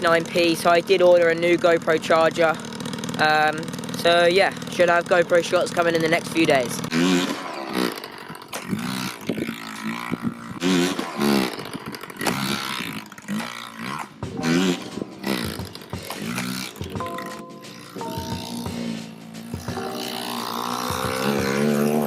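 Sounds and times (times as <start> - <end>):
small two-stroke engine revving: 0.0 - 22.0.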